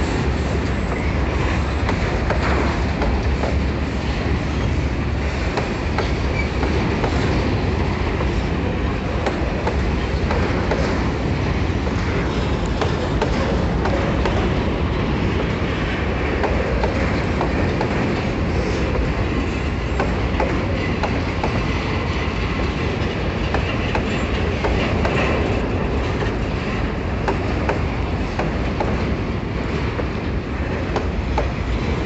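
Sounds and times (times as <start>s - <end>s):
steel wheels rumbling on rails: 0.0s - 32.0s
wheels clacking over rail joints: 0.0s - 32.0s.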